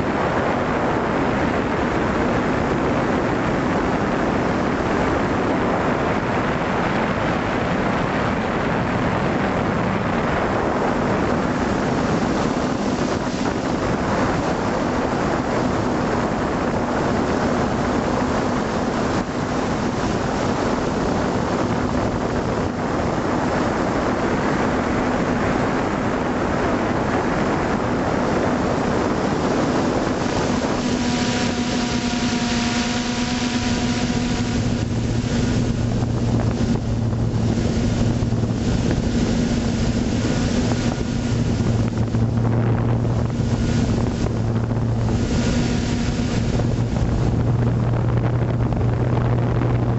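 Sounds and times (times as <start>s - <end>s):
drone propellers humming: 0.0s - 49.9s
wind on microphone: 0.0s - 49.9s.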